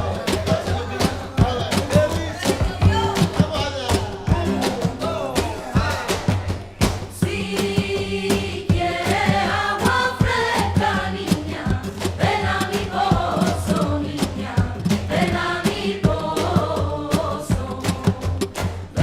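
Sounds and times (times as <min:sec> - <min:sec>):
choir singing a carol: 0:00.0 - 0:19.0
percussion and bass beat: 0:00.0 - 0:19.0.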